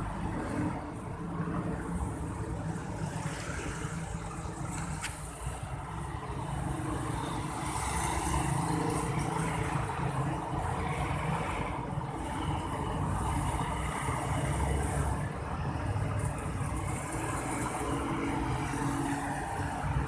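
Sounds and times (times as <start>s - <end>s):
cars and motorcycles driving past: 0.0s - 20.0s.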